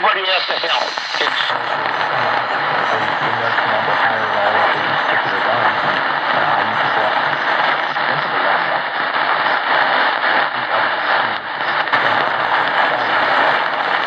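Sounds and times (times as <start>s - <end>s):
radio static hiss: 0.0s - 14.0s
weak distant radio station: 0.0s - 14.0s.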